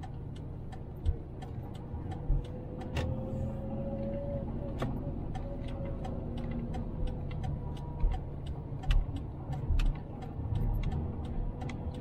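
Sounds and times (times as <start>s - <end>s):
car road and engine rumble: 0.0s - 12.0s
light ticking: 0.0s - 12.0s.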